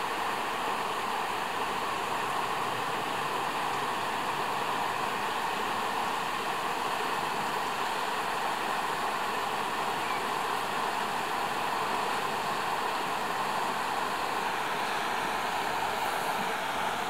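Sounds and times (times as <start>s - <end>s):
river water rushing over rocks: 0.0s - 17.0s.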